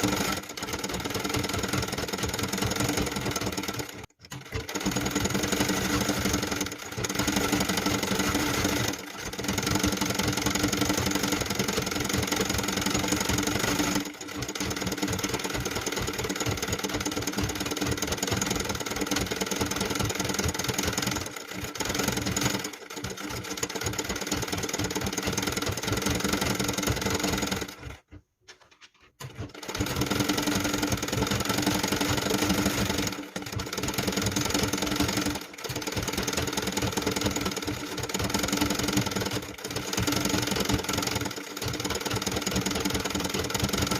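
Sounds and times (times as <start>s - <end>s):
sewing machine stitching: 0.0s - 43.9s.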